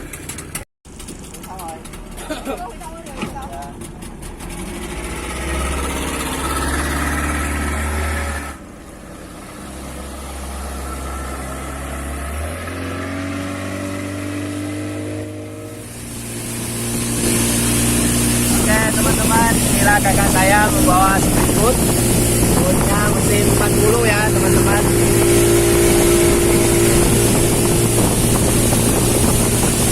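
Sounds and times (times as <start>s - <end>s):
outboard motor running: 0.0s - 29.9s
rushing water noise: 4.4s - 29.9s.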